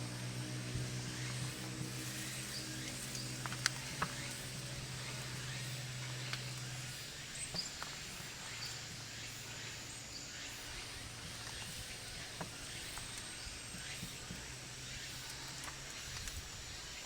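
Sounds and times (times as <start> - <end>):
low hum: 0.0 - 16.9
steady hiss: 0.0 - 17.0.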